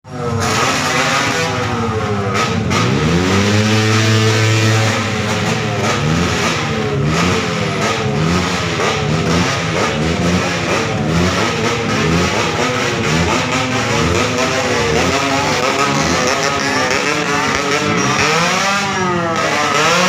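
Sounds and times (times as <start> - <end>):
motorcycle engine revving: 0.1 - 20.0.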